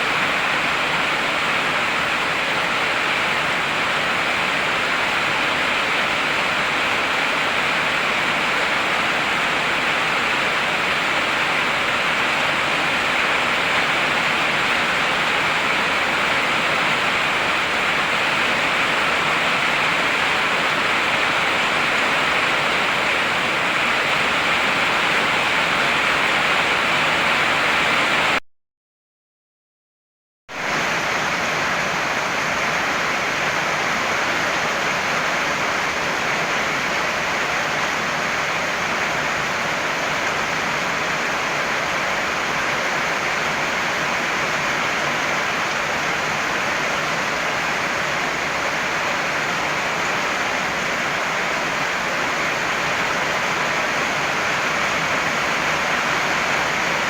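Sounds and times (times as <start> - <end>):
heavy rain falling: 0.0 - 28.4, 30.6 - 57.0.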